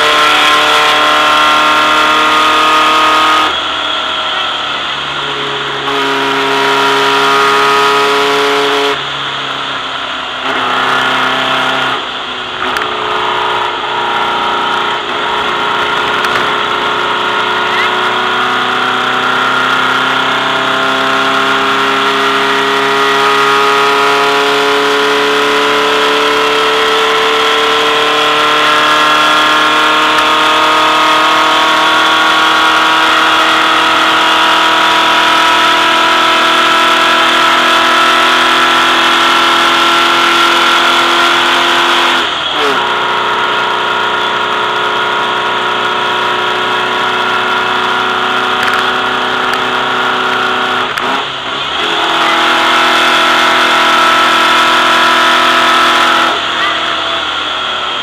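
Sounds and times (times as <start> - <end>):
gear changes: 0.0 - 20.2, 21.0 - 58.0
race car engine at high revs: 0.0 - 58.0.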